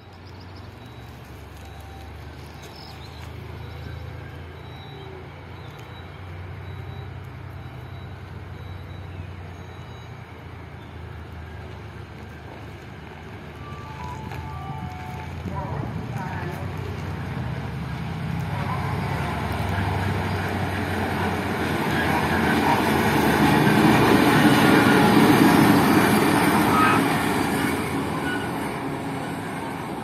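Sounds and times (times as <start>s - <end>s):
diesel engine drone: 0.0s - 30.0s
train ride rumble: 0.0s - 30.0s.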